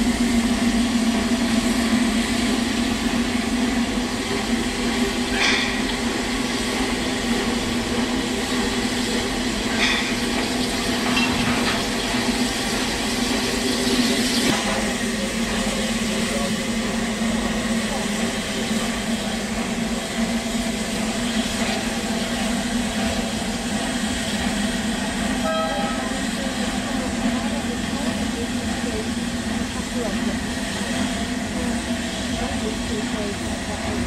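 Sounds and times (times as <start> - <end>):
steam locomotive low hum: 0.0 - 34.0.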